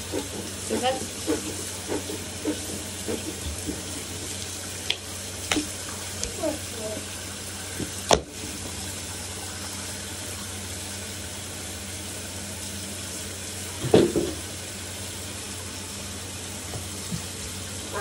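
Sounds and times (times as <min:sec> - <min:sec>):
bathtub faucet running: 0:00.0 - 0:18.0.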